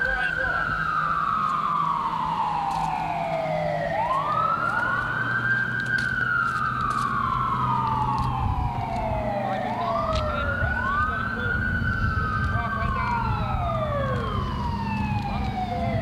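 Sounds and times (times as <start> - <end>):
fire engine siren wailing: 0.0 - 16.0
truck engine drone: 0.0 - 16.0.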